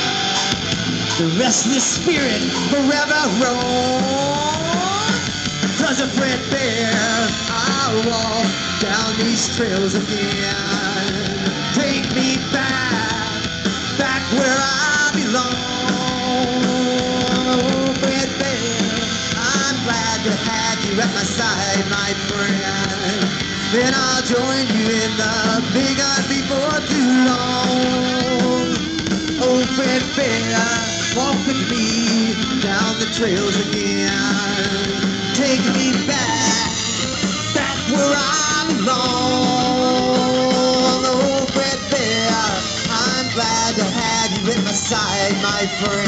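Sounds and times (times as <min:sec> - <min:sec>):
bass guitar: 0:00.0 - 0:46.0
drums: 0:00.0 - 0:46.0
electric guitar lead lines: 0:00.0 - 0:46.0.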